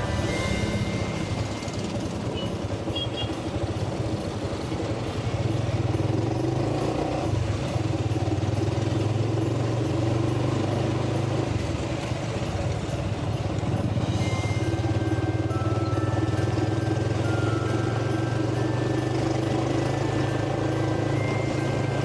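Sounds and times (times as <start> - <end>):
motorcycle engine running: 0.0 - 22.0
traffic: 0.0 - 22.0.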